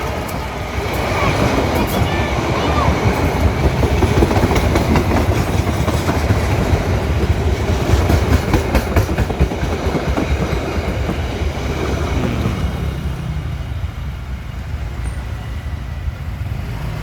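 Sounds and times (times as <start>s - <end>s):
train rumbling past: 0.0s - 17.0s
wheels clacking over rails: 0.0s - 17.0s.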